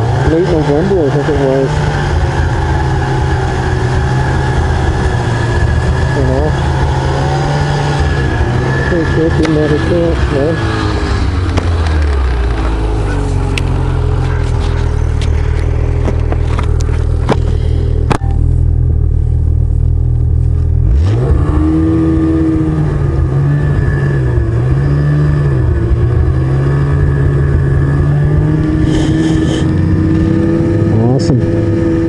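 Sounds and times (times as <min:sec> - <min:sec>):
snowmobile engine revving: 0:00.0 - 0:17.8, 0:20.8 - 0:32.0.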